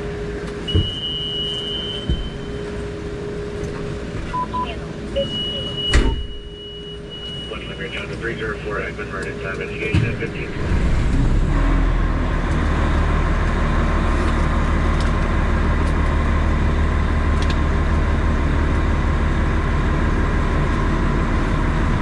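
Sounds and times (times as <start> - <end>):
fire truck engine and road noise: 0.0 - 22.0.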